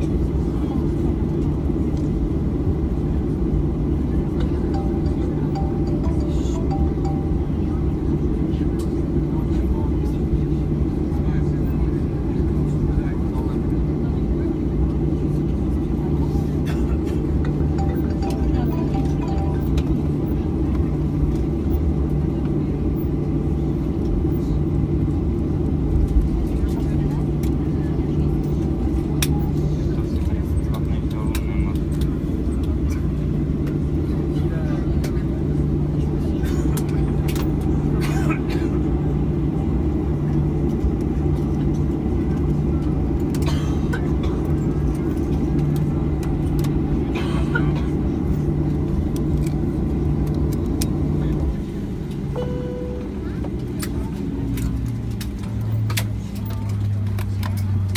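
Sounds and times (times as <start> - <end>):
airplane cabin rumble: 0.0 - 57.9
faint voices: 0.0 - 57.9.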